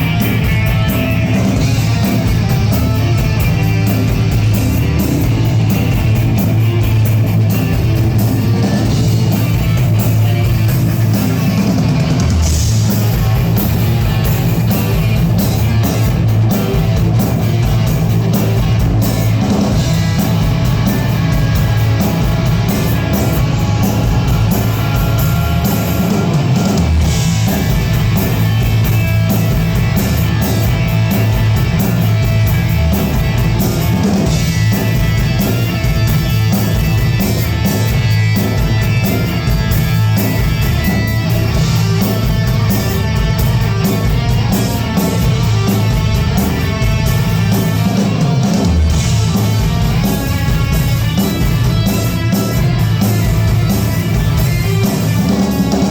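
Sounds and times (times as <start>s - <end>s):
band playing heavy rock: 0.0s - 55.9s.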